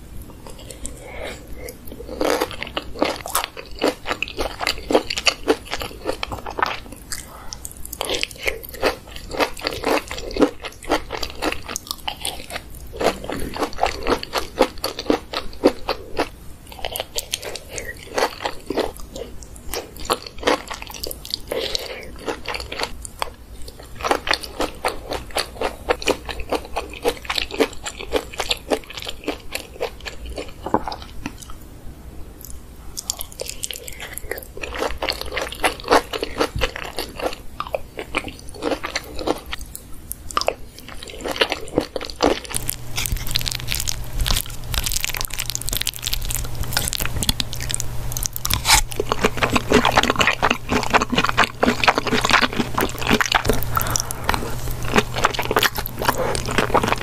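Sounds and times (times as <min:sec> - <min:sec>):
chewing crunchy corn: 0:00.4 - 0:31.6, 0:32.4 - 0:57.0.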